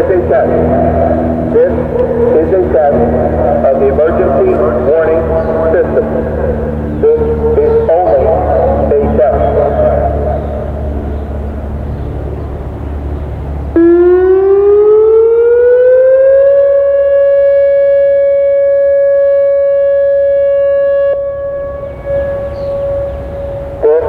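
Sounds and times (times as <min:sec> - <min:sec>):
outdoor warning siren: 0:00.0 - 0:24.0.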